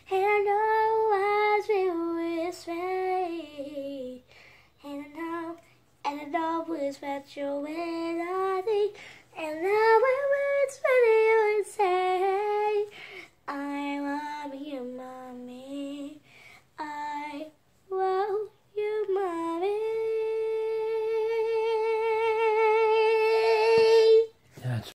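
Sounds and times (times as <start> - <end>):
girl singing: 0.0 - 24.4.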